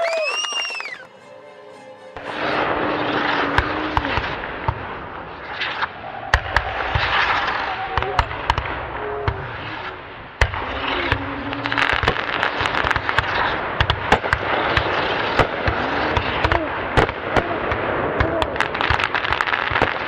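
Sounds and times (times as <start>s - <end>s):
fireworks crackling hiss: 0.1s - 17.1s
fireworks bangs and pops: 2.9s - 20.0s.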